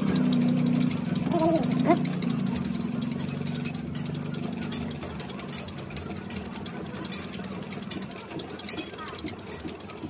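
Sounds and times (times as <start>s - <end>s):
rapid regular ticking: 0.0s - 10.0s.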